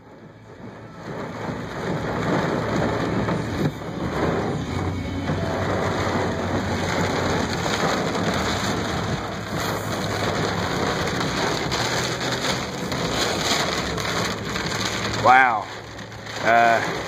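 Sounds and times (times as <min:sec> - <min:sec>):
heavy rain on car roof: 0:00.0 - 0:17.0.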